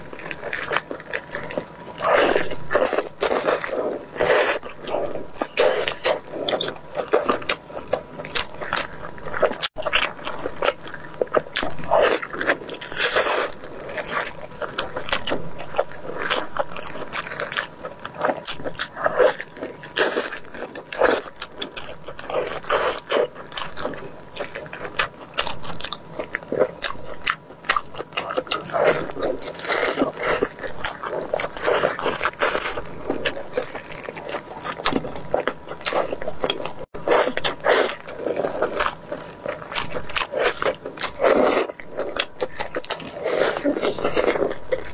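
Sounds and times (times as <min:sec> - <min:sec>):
meat tearing with squelches: 0:00.0 - 0:44.9
wet chewing and lip-smacking: 0:00.0 - 0:44.9.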